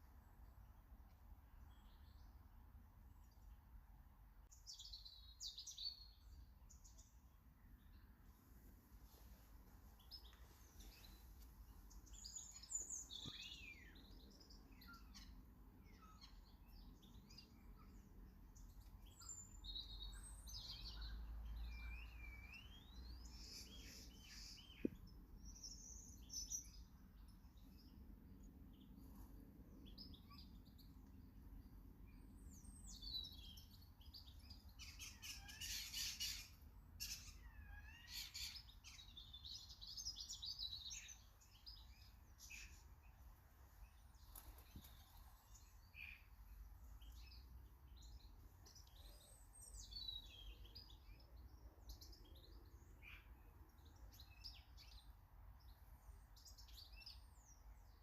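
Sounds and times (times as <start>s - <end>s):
small birds chirping and singing: 0.0s - 58.0s.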